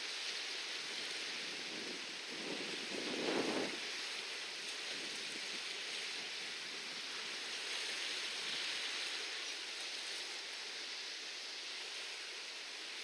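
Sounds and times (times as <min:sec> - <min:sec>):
sea and wind hiss: 0:00.0 - 0:13.0.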